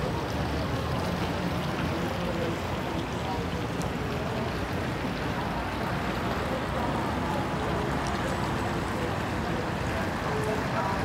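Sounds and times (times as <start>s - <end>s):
constant rushing noise: 0.0s - 11.0s
faint distant voices: 0.0s - 11.0s.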